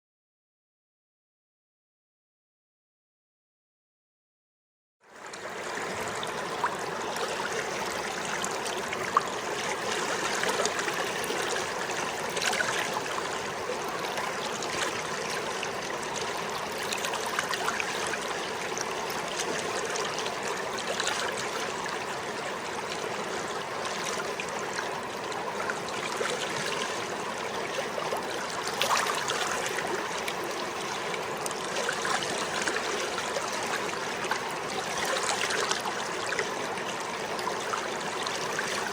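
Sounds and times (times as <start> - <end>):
river water flowing over rocks: 5.2 - 38.9.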